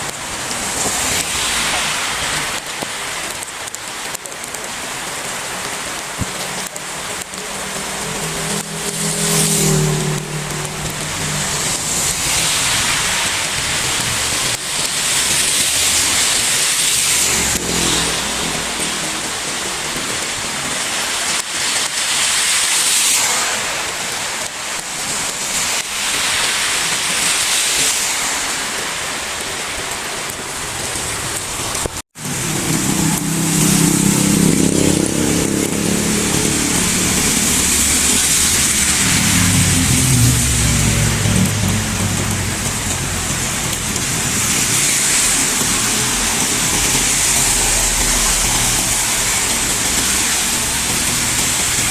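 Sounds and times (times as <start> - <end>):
heavy rain pouring: 0.0 - 51.9
vehicles swishing past on wet road: 0.0 - 51.9.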